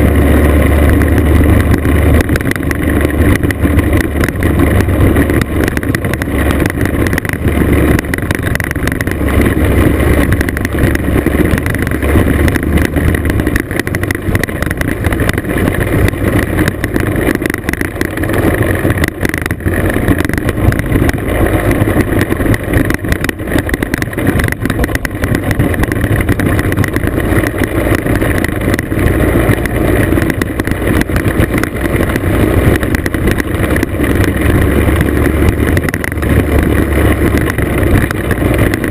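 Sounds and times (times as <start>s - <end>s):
scooter engine running: 0.0s - 38.9s
tyres on gravel: 0.0s - 38.9s.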